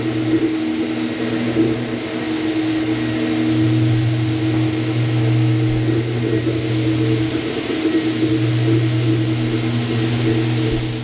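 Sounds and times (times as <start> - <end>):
floor buffer motor hum: 0.0 - 11.0.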